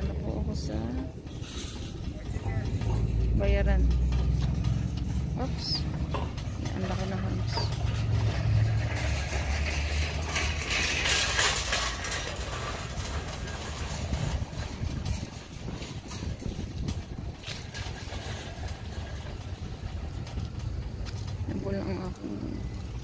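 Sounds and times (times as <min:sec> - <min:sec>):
cart wheels rumbling on concrete: 0:00.0 - 0:23.0
metal frame rattling: 0:00.0 - 0:23.0.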